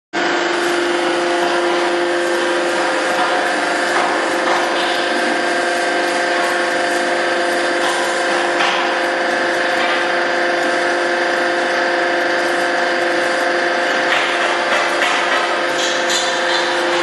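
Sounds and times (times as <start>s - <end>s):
machine humming: 0.2s - 17.0s.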